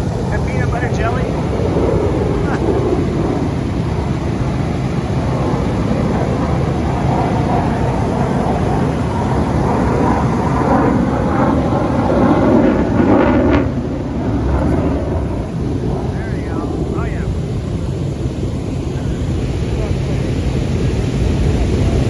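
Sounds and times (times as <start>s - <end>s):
aircraft engines rumbling: 0.0s - 22.0s.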